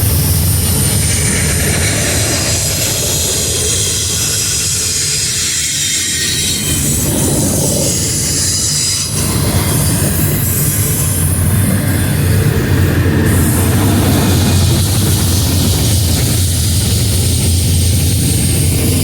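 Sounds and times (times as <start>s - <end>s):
freight train rumble: 0.0s - 19.0s
steel wheels squealing on rails: 0.0s - 19.0s.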